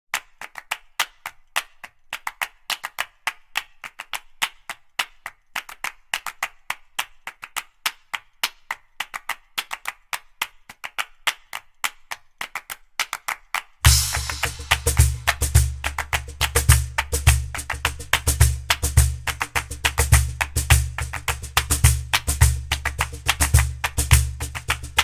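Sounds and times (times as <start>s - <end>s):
music with clap percussion: 0.1s - 25.0s.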